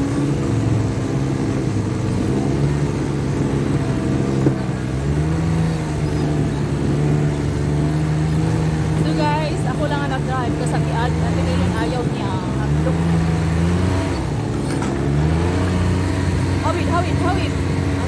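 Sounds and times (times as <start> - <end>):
snowmobile engine running: 0.0 - 18.0.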